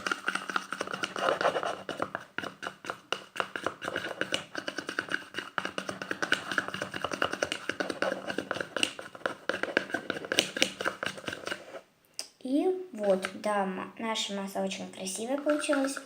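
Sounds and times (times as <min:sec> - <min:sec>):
utensil stirring slime in bowl: 0:00.0 - 0:11.8, 0:13.0 - 0:13.5, 0:14.9 - 0:16.0.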